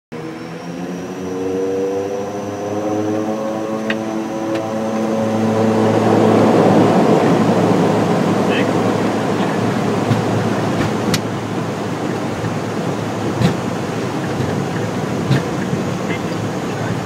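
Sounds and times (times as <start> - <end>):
high whine: 0.1 - 17.0
turboprop engines spooling up: 0.1 - 17.0.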